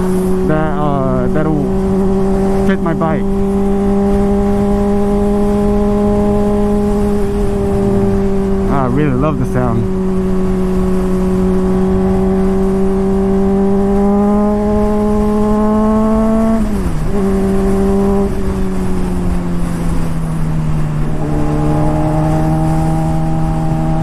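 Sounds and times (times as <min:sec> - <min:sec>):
motorcycle engine revving: 0:00.0 - 0:24.0
wind rushing: 0:00.0 - 0:24.0.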